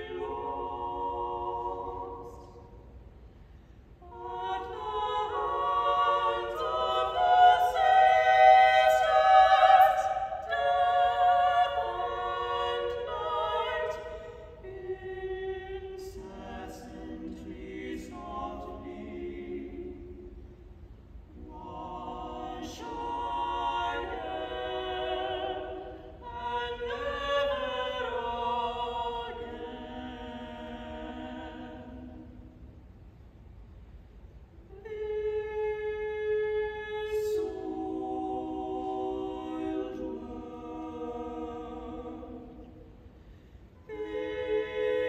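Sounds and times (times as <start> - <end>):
women singing a cappella harmony: 0.0 - 3.0, 4.0 - 20.6, 21.2 - 32.6, 34.6 - 45.0.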